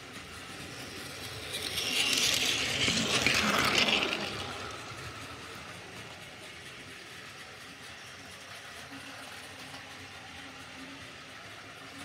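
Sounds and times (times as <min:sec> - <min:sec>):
toy train running on plastic track: 0:00.0 - 0:12.0.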